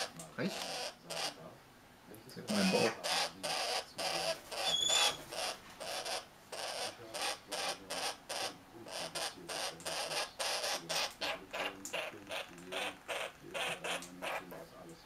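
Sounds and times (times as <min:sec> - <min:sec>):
parrot squeak: 0:00.0 - 0:01.4, 0:02.5 - 0:14.5.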